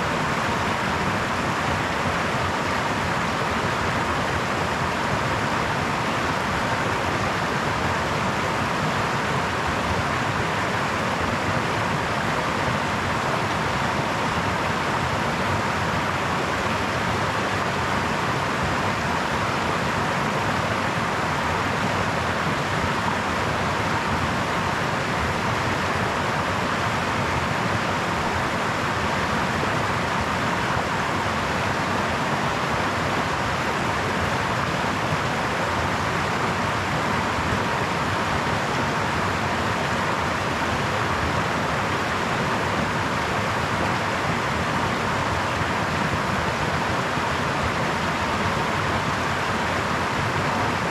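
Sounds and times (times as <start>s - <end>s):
brook water flowing over stones: 0.0s - 50.9s.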